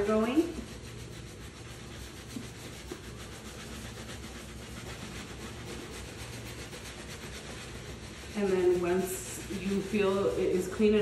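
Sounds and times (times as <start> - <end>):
brushes scrubbing sneakers: 0.0 - 11.0.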